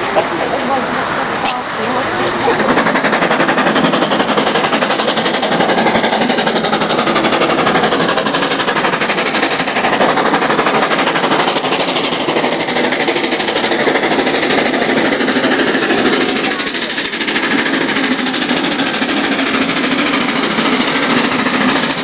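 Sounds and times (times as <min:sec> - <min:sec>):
steam locomotive exhaust beats: 0:00.0 - 0:22.0.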